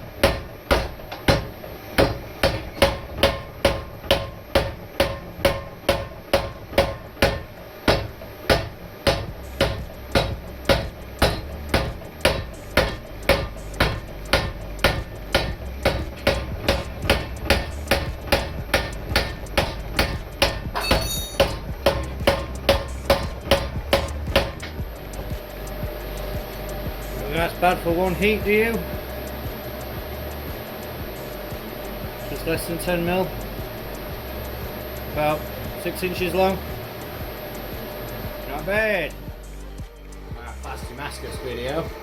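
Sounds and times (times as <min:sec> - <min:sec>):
power hammer pounding steel bar: 0:00.0 - 0:37.3.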